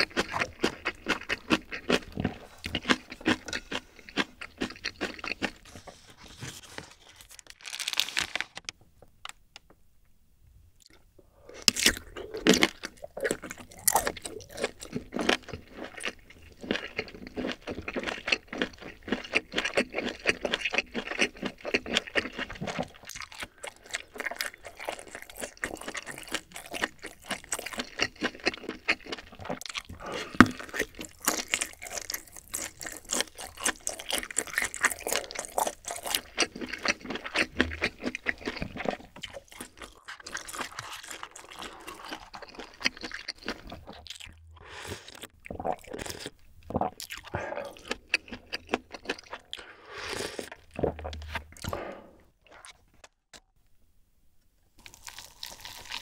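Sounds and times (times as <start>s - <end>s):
chewing sausage with mouth clicks: 0.0s - 5.7s, 11.6s - 49.7s, 54.8s - 56.0s.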